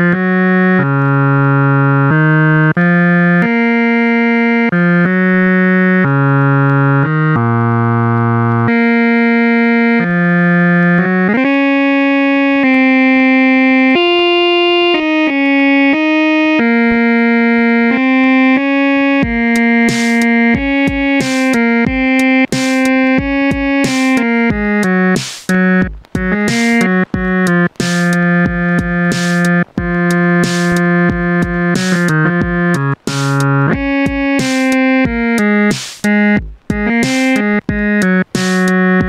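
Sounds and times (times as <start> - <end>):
instrumental music with held chords: 0.0 - 39.0.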